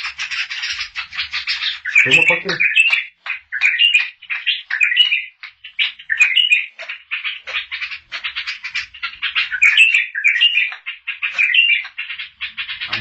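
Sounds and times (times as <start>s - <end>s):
bird chattering and warbling: 0.0s - 13.0s.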